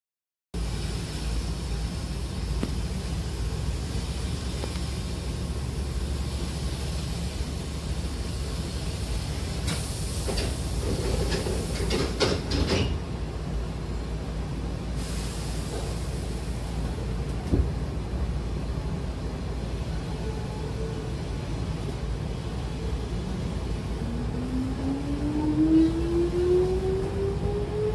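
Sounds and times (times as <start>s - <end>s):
sliding train doors closing: 0.6s - 13.8s, 14.6s - 27.9s
train car hum: 0.6s - 27.9s.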